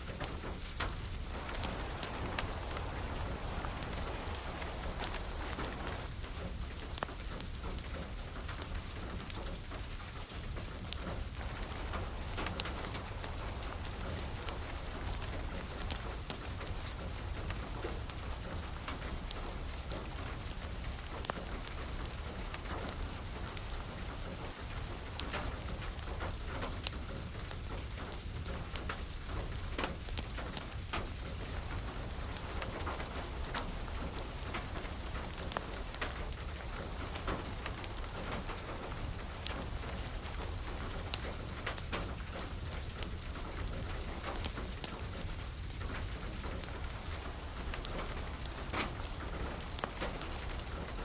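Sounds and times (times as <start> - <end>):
steady rain falling: 0.0 - 51.0
wood fire crackling: 0.0 - 51.0.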